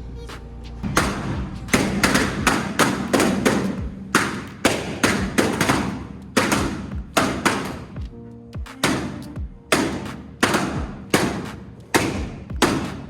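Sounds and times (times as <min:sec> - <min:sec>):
balloons bursting: 0:00.8 - 0:08.1, 0:08.7 - 0:13.0.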